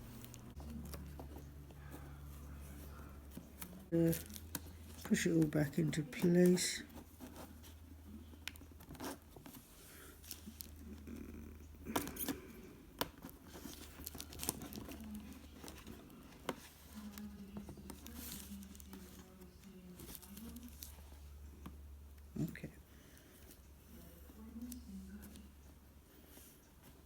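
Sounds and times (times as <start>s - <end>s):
faint clicks and crinkly handling: 0.0s - 27.0s.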